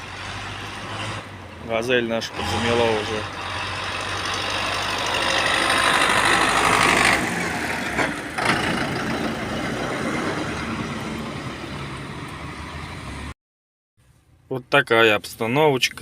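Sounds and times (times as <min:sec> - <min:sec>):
road traffic engines: 0:00.0 - 0:13.4.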